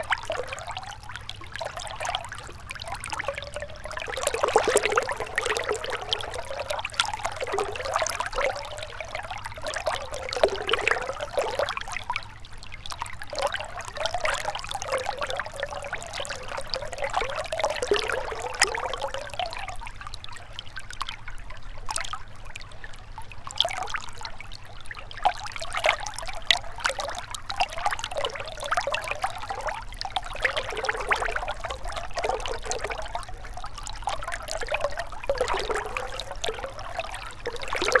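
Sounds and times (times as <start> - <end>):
river trickling and gurgling: 0.0 - 38.0.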